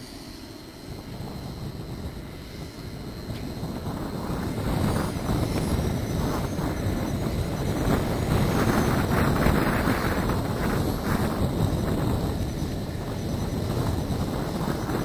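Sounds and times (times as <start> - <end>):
model jet turbines rushing: 0.0 - 15.0.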